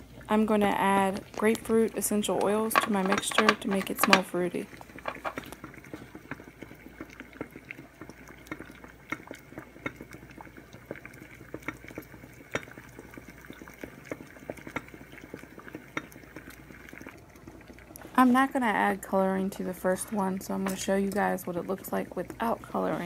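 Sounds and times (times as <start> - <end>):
water boiling in a saucepan: 0.0 - 23.0.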